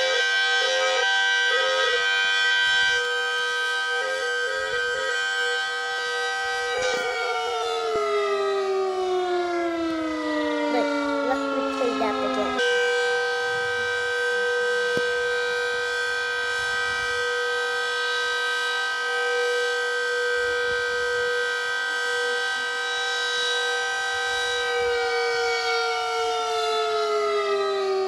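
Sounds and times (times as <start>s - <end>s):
warning siren wailing: 0.0s - 28.0s.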